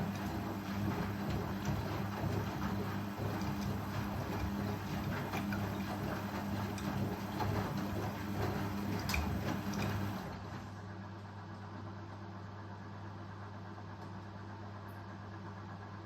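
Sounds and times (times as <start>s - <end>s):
washing machine hum: 0.0s - 16.0s.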